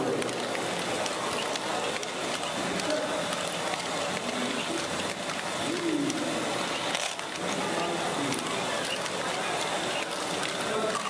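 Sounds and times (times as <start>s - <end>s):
crowd babble: 0.0s - 11.0s
plastic balls clicking and rattling: 0.0s - 11.0s.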